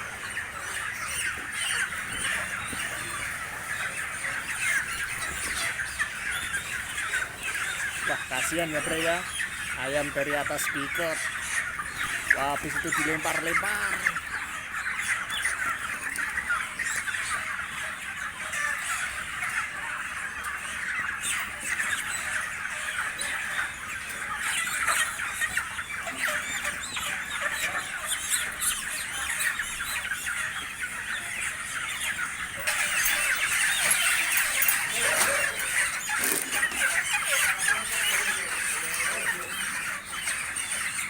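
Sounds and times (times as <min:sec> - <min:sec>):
chickens squealing and squawking: 0:00.0 - 0:41.0.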